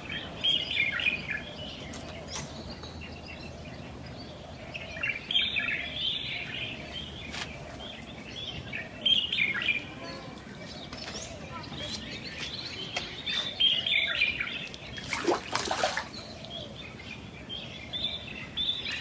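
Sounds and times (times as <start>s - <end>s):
birds chirping and twittering: 0.0s - 19.0s.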